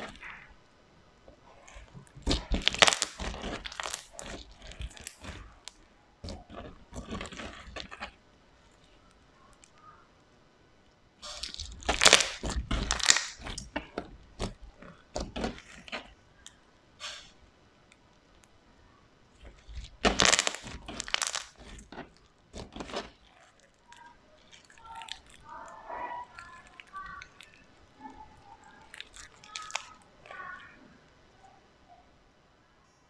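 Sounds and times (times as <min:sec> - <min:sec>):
slime crackling and popping: 0:00.0 - 0:00.7, 0:01.3 - 0:10.1, 0:10.8 - 0:18.6, 0:19.2 - 0:30.8.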